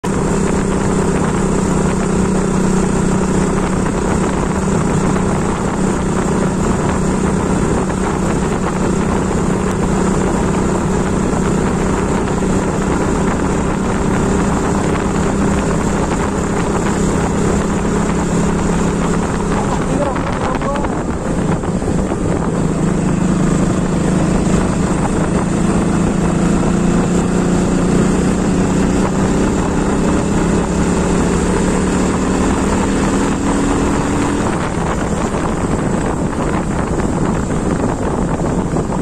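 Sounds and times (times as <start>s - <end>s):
motorcycle engine cruising: 0.0s - 39.0s
wind and road noise: 0.0s - 39.0s.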